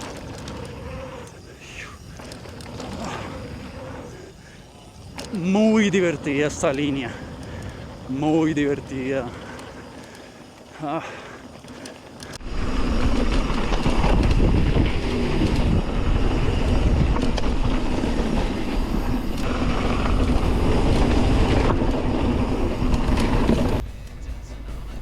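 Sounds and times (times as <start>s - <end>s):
mountain bike rattling on dirt: 0.0s - 25.0s.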